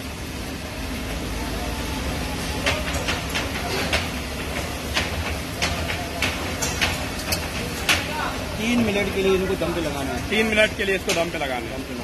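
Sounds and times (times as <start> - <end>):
kitchen roar and hiss: 0.0 - 12.0.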